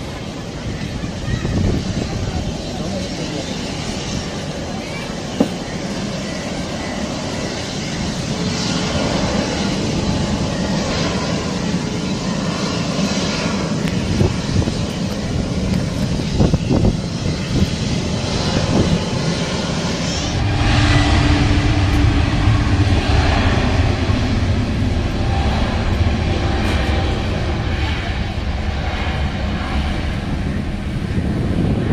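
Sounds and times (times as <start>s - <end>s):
jet engines rumbling on takeoff: 0.0s - 31.9s.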